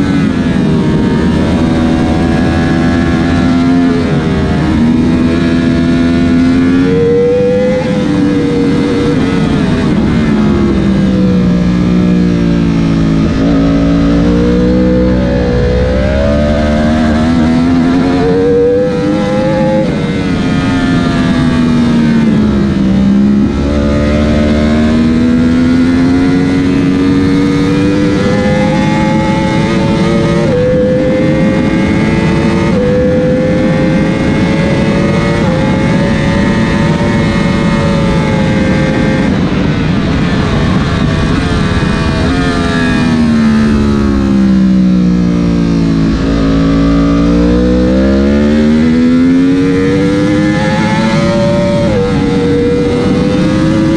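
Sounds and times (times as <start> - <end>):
motorcycle engine revving: 0.0 - 53.9
wind noise: 0.0 - 53.9.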